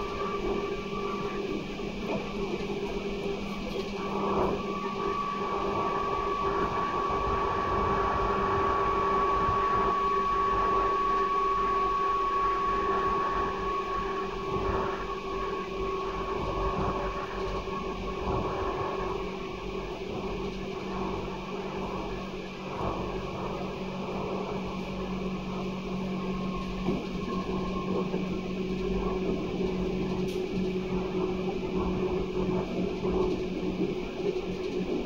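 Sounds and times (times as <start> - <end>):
traction motor whine: 0.0 - 35.0
wheels rumbling on rail: 0.0 - 35.0.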